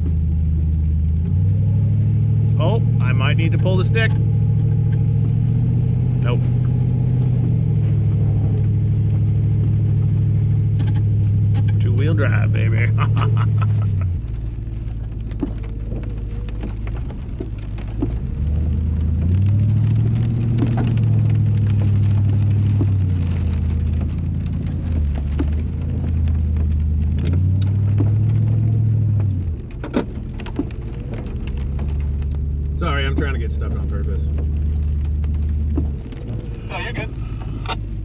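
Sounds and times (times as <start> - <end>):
truck engine revving: 0.0 - 38.0
water spattering on vehicle: 0.1 - 38.0.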